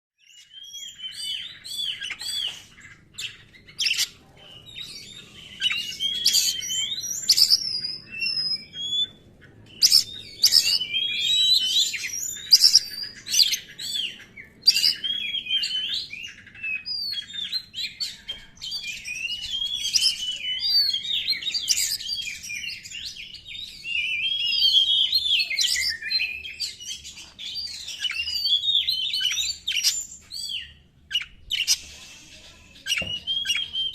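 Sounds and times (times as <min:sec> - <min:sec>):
magpie-robin singing: 0:00.2 - 0:33.9.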